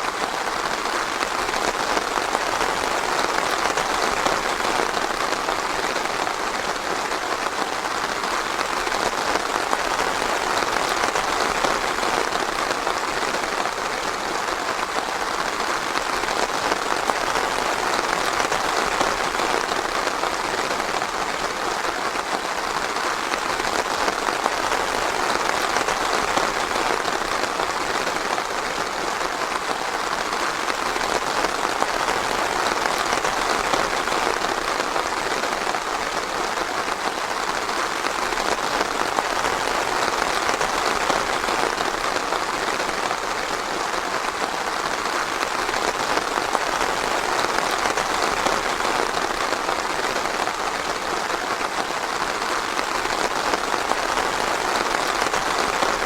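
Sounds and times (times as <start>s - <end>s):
rain on forest canopy: 0.0s - 56.0s.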